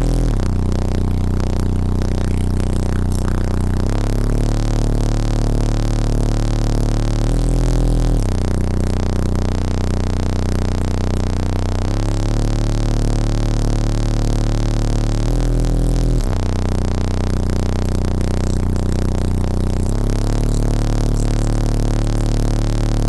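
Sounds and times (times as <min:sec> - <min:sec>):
bass-heavy music in car: 0:00.0 - 0:23.0.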